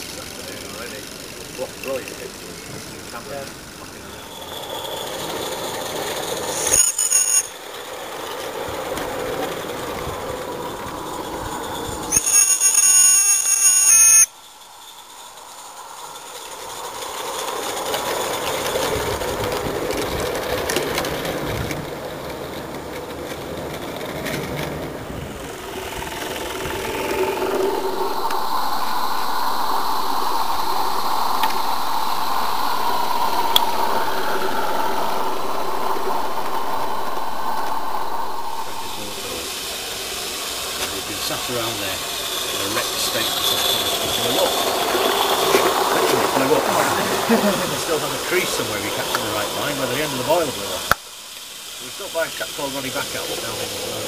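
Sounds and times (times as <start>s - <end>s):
steam locomotive running noise: 0.0s - 54.0s
loud high-pitched squeal: 3.2s - 8.5s, 9.4s - 20.3s, 25.0s - 54.0s.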